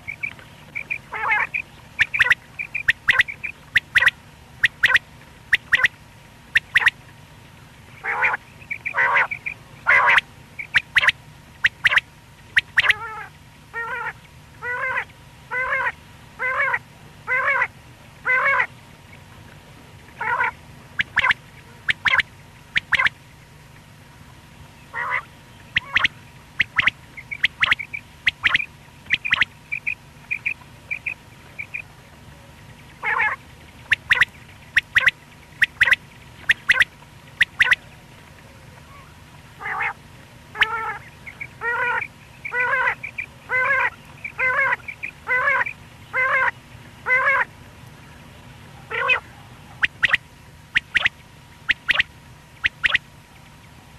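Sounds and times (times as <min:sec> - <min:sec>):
quail calling: 0:00.0 - 0:07.0, 0:07.9 - 0:18.8, 0:20.2 - 0:23.2, 0:24.9 - 0:47.5, 0:48.8 - 0:53.1.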